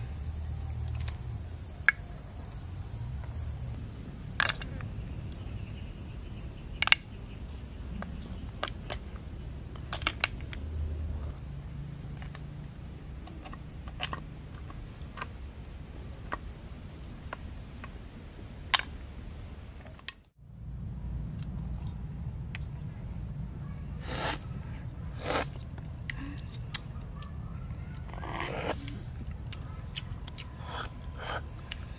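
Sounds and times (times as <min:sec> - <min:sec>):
insects trilling: 0:00.0 - 0:31.9.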